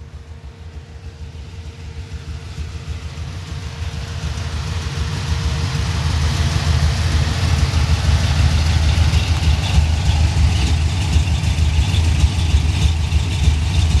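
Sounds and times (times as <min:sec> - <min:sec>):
engine idling unevenly: 0:00.0 - 0:14.0.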